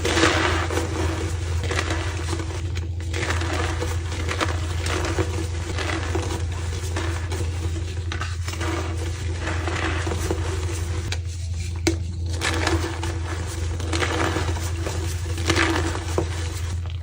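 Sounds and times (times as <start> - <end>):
chalk crushing and crumbling: 0.0 - 17.0
steady low hum: 0.0 - 17.0.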